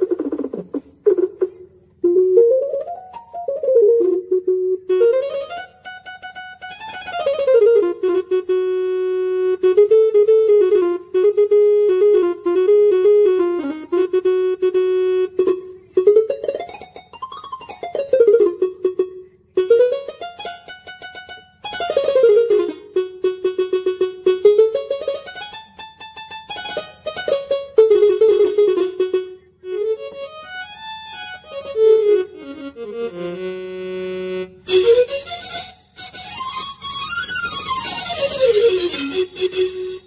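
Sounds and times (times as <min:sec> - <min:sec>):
electronic keyboard notes: 0:00.0 - 0:40.0.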